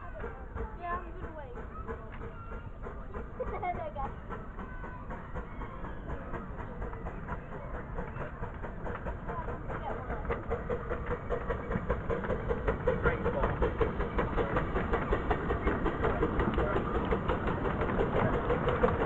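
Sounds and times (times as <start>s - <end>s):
miniature train engine pulsing: 0.0s - 19.0s.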